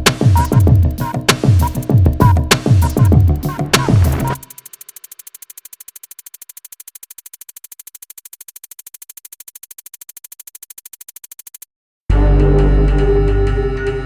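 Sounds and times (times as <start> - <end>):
rapid electronic synth pulse: 0.0 - 11.6.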